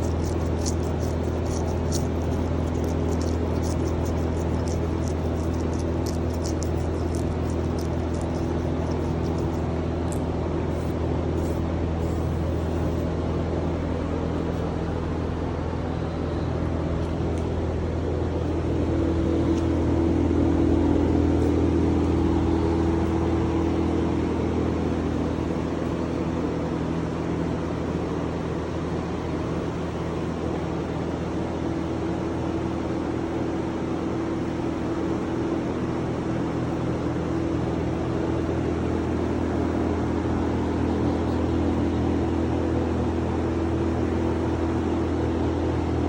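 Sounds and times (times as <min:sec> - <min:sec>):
machine hum with steady tones: 0:00.0 - 0:46.0.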